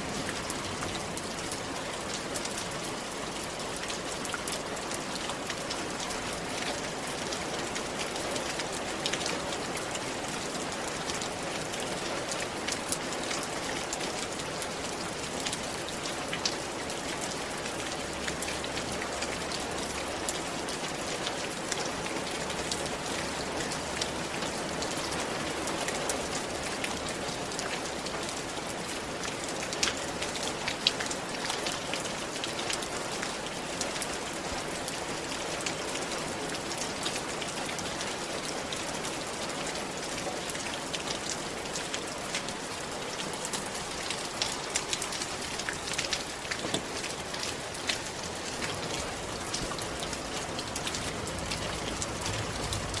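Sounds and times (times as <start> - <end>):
rain on a roof: 0.0 - 53.0.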